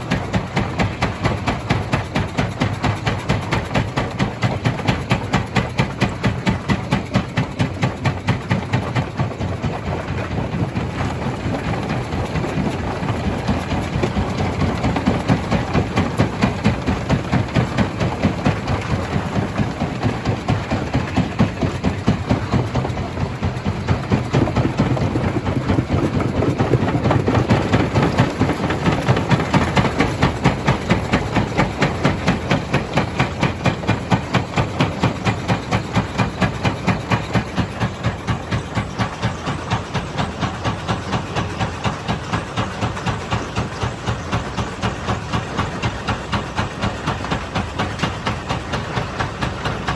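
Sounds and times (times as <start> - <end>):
stone crusher rhythmic pounding: 0.0 - 49.9.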